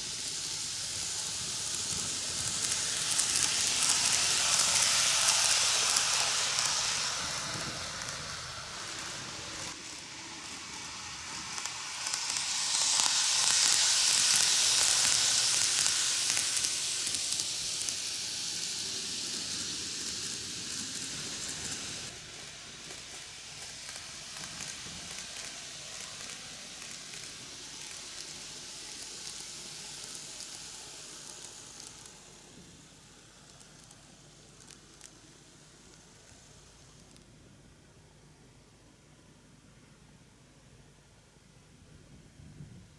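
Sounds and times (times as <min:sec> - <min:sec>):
model train rattling on rails: 0:00.0 - 0:37.2.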